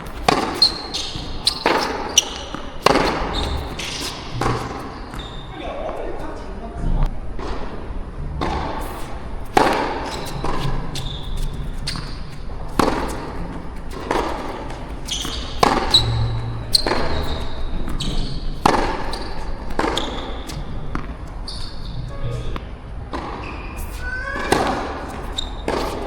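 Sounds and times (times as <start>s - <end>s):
shoe squeaks on court: 0.0s - 6.3s, 8.4s - 22.6s, 23.2s - 26.0s
tennis balls struck by rackets: 0.0s - 6.3s, 7.0s - 23.6s, 24.4s - 26.0s
tennis balls bouncing on court: 0.0s - 26.0s.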